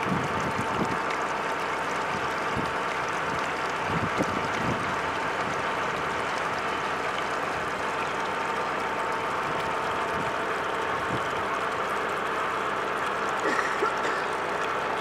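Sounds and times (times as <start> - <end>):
water stream splashing into river: 0.0 - 15.0.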